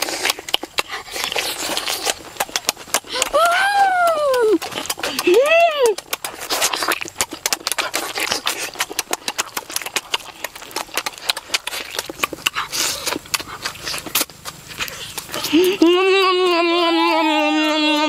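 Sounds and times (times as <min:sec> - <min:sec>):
people chewing and lip-smacking: 0:00.0 - 0:18.0.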